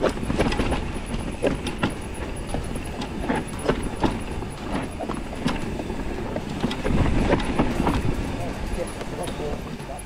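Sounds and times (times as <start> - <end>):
bike clunks and rattles: 0.0 - 10.0
mountain bike rolling over rock: 0.0 - 10.0.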